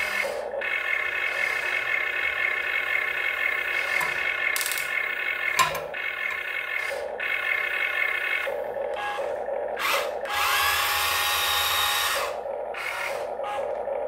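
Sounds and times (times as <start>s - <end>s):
toy excavator motors whining: 0.0s - 14.0s.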